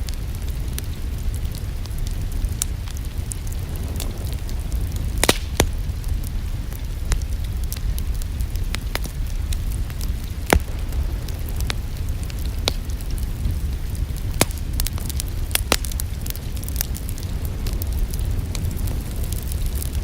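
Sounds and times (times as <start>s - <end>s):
wood fire crackling in fireplace: 0.0s - 20.0s.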